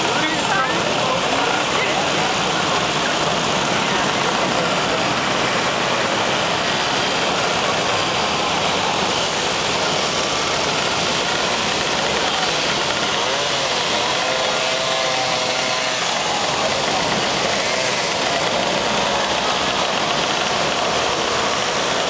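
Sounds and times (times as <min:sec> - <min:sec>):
engine note rising and falling: 0:00.0 - 0:22.0
moped engines buzzing: 0:00.0 - 0:22.0.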